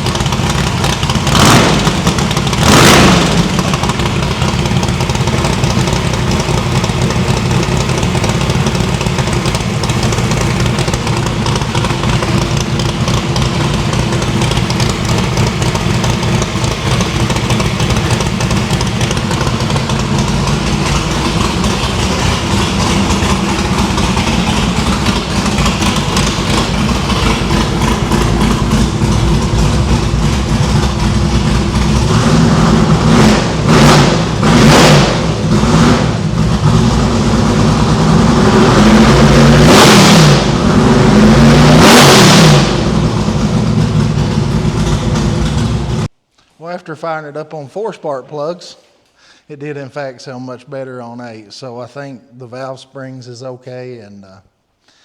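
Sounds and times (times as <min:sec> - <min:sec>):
car engine idling: 0:00.0 - 0:46.2.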